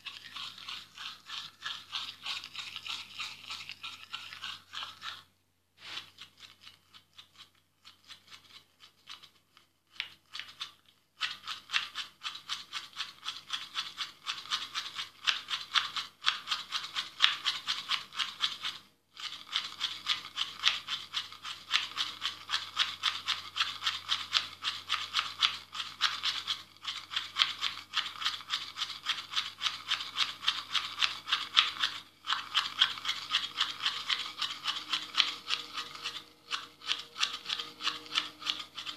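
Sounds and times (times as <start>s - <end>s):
toothbrush scrubbing teeth: 0.0s - 38.9s.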